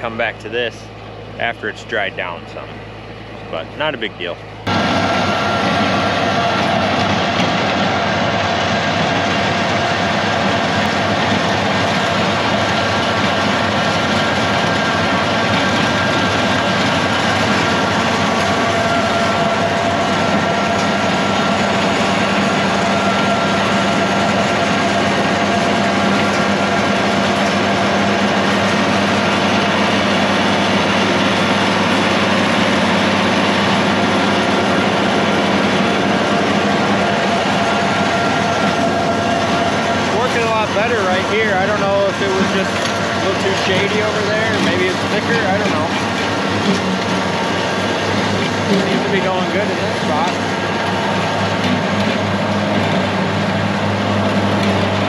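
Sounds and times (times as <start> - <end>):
thin whine: 0.0 - 55.0
tractor diesel engine droning: 0.0 - 55.0.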